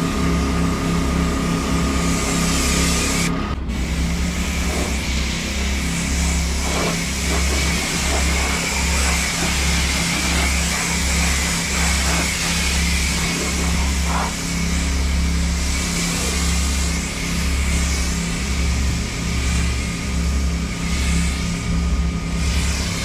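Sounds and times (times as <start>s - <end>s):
washer motor running: 0.0s - 23.0s
pressure washer spraying water: 1.3s - 23.0s.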